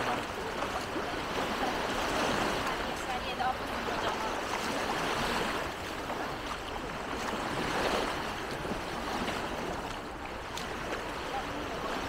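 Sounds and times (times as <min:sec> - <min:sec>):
waves washing onto beach: 0:00.0 - 0:12.0.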